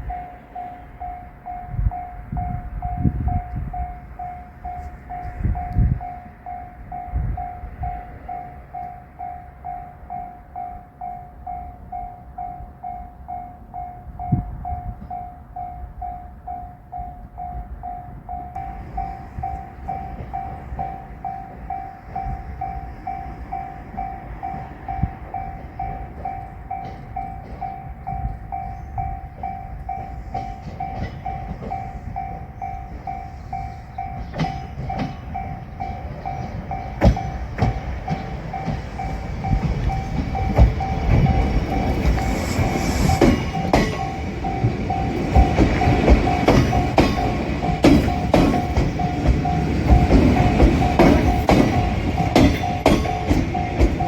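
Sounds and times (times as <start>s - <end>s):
level-crossing warning bell ringing: 0.0s - 54.0s.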